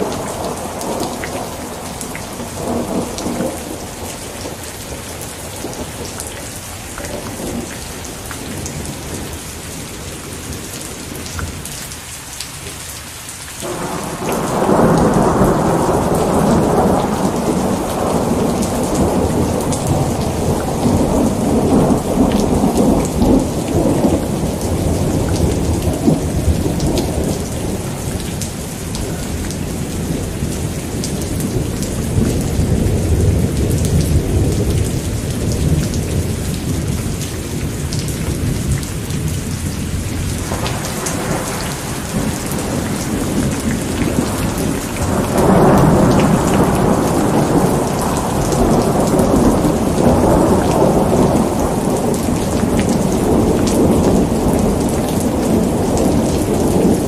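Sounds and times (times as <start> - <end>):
rolling thunder: 0.0 - 11.6, 13.6 - 57.0
steady rain falling: 0.0 - 57.0.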